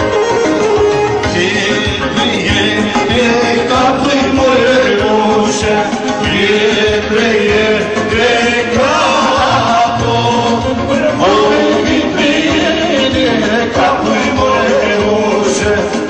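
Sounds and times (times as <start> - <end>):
folk dance band with keyboard: 0.0 - 16.0
person singing: 0.0 - 16.0.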